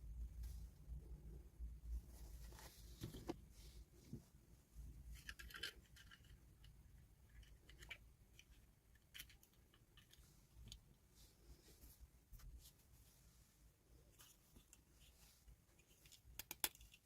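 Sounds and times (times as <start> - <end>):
plastic toys and packaging handled: 2.2 - 13.0, 13.8 - 17.0.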